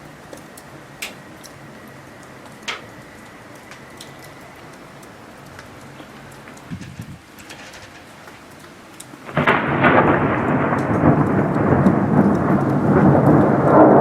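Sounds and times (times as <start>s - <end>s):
hiss of falling precipitation: 0.0s - 14.0s
graupel ticking on surfaces: 0.2s - 14.0s.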